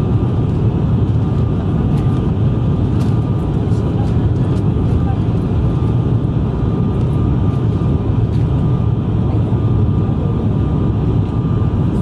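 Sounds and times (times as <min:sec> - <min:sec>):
turboprop engines droning in cabin: 0:00.0 - 0:12.0.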